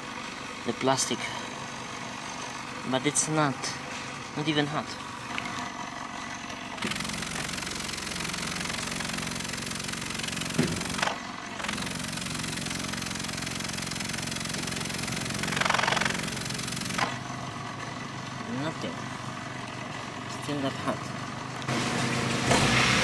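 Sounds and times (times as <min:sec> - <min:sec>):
car engine at raised revs: 0:00.0 - 0:23.0.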